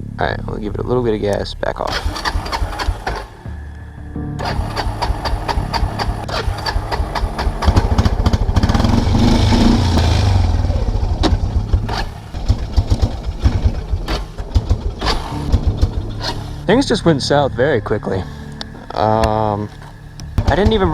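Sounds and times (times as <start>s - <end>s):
atv engine revving and stumbling: 0.6s - 20.9s.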